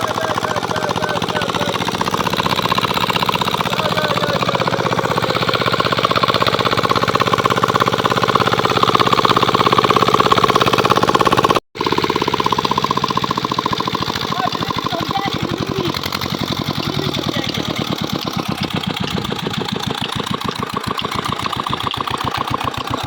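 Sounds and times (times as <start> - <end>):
diesel pump engine knocking: 0.0 - 23.0.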